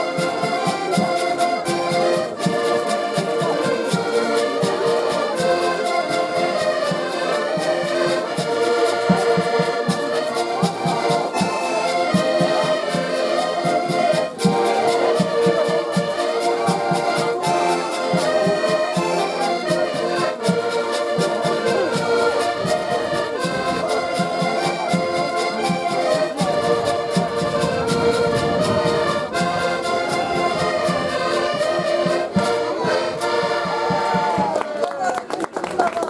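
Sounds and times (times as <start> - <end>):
drum beating steady time: 0.0 - 35.0
accordions playing folk tune: 0.0 - 35.9.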